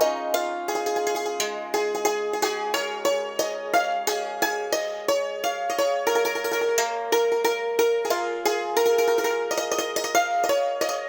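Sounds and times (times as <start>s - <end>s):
plucked string instrument melody: 0.0s - 11.0s.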